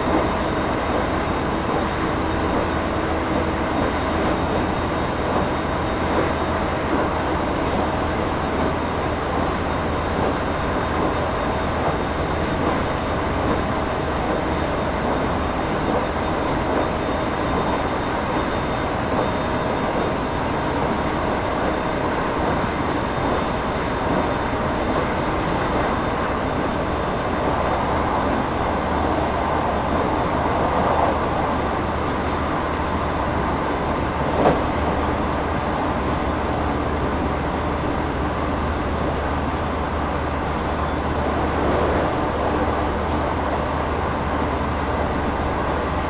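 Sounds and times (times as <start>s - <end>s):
train wheels on rail: 0.0s - 46.0s.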